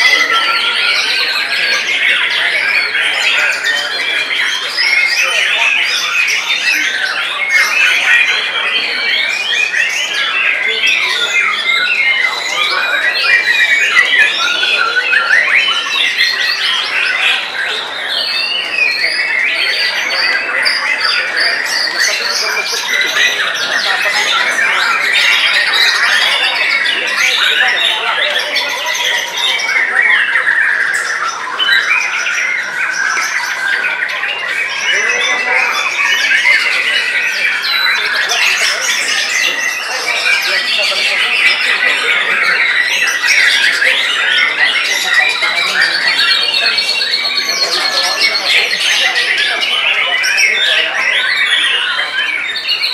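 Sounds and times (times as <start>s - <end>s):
birds singing whistles and trills: 0.0s - 52.9s.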